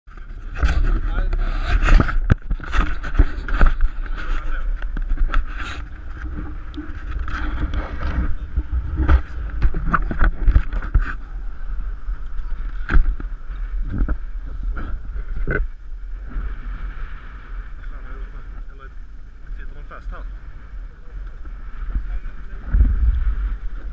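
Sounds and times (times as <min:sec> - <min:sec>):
waves slapping boat hull: 0:00.1 - 0:23.9
wind buffeting microphone: 0:00.1 - 0:23.9.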